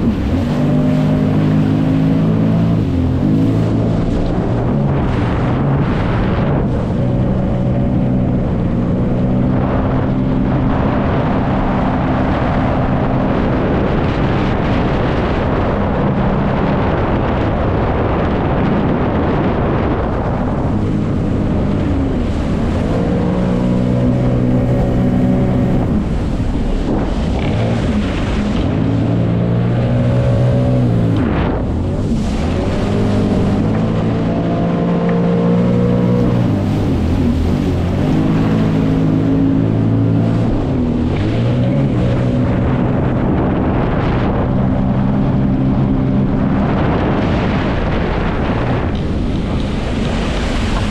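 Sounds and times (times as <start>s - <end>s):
jet ski engine running: 0.0s - 50.9s
rushing water and spray: 0.0s - 50.9s.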